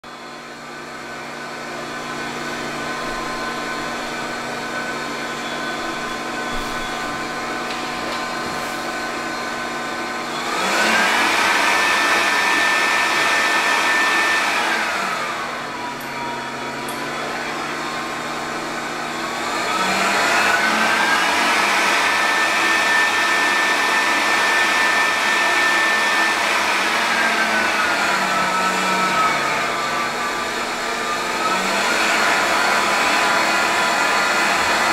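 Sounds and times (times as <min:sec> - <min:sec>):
electric fan whining: 0:00.1 - 0:34.9.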